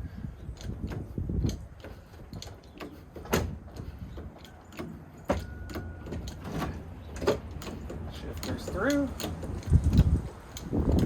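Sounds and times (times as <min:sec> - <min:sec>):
gear shifter working: 0:00.0 - 0:11.0
truck cab metal clunks: 0:00.6 - 0:11.0.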